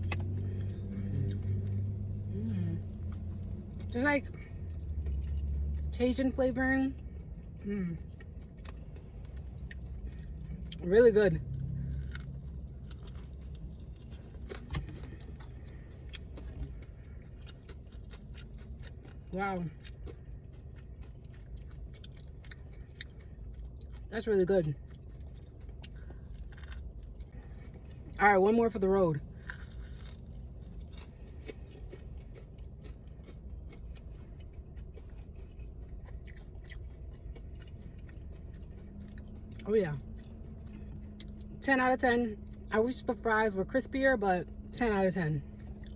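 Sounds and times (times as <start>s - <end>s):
chewing crunchy food: 0.0s - 45.9s
low steady hum: 0.0s - 45.9s.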